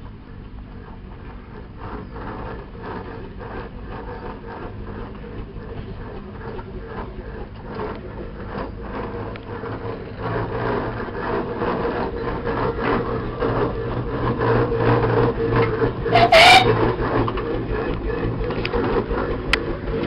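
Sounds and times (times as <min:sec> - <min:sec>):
mechanical hum and clatter: 0:00.0 - 0:20.0
steam engine exhaust beat: 0:01.7 - 0:20.0.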